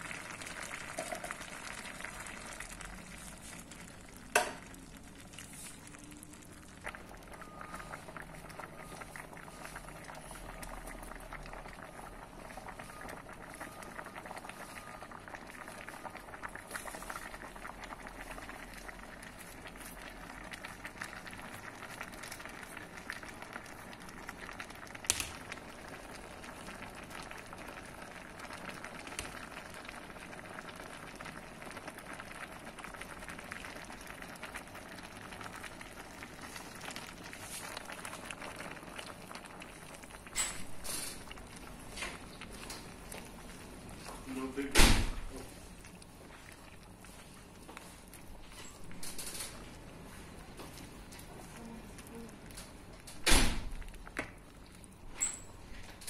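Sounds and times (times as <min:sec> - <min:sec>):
soup bubbling in a pot: 0:00.0 - 0:56.0.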